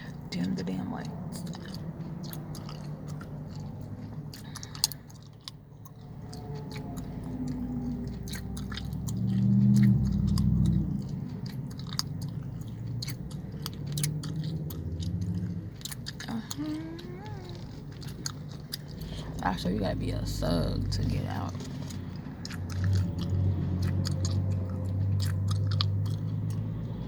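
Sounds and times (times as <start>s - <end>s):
chewing gum smacking: 0.0s - 27.0s.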